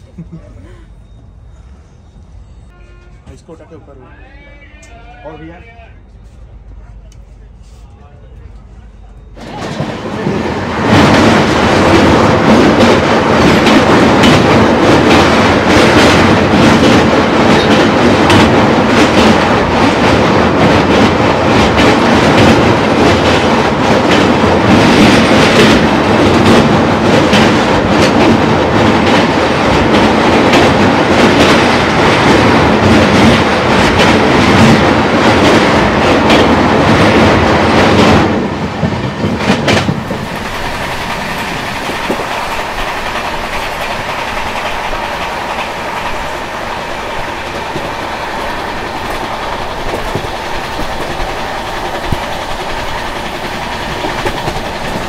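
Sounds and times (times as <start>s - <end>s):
train rumbling across steel bridge: 0.0s - 55.0s
train running on plain track: 0.0s - 55.0s.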